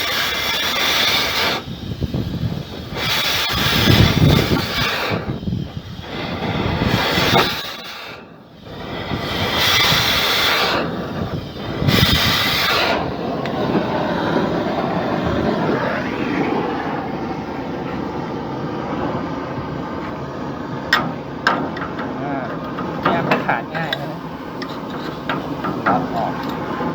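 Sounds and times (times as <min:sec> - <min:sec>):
hissing bursts: 0:00.0 - 0:26.9
loud machinery noise: 0:00.0 - 0:26.9.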